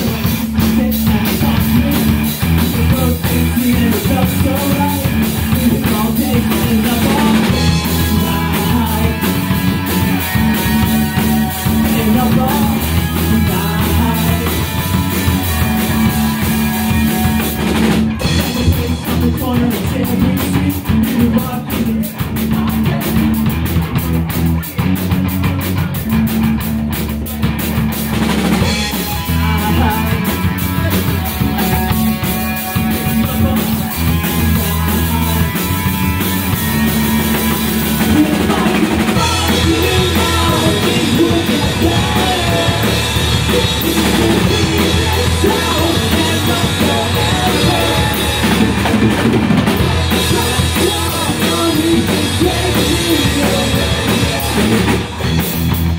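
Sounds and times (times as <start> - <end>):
person singing: 0.0 - 23.6, 28.6 - 55.2
fast hard drum strokes: 0.0 - 55.9
punk rock band playing: 0.0 - 55.9.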